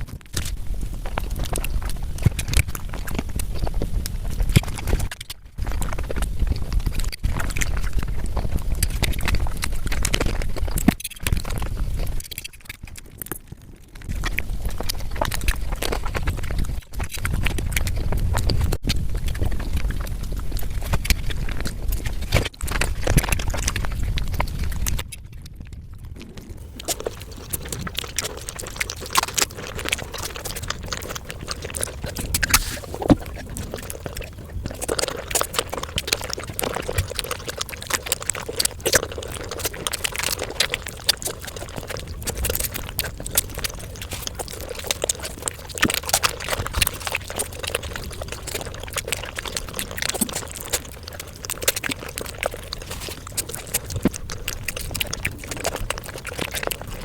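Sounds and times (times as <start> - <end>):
mouth clicks and crackles: 0.0 - 57.0
wet chewing and slurping: 0.1 - 57.0.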